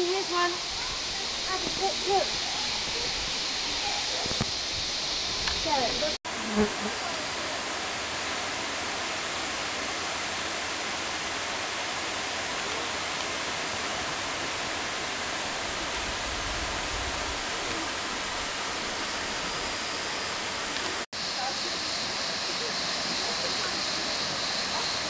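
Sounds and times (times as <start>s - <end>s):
waterfall rushing into pool: 0.0s - 25.0s.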